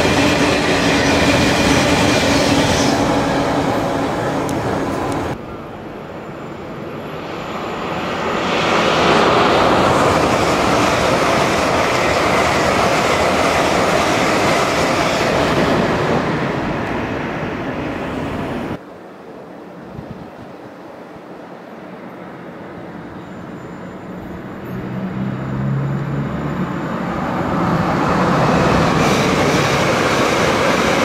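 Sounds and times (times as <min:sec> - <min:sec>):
train passing on rails: 0:00.0 - 0:31.0.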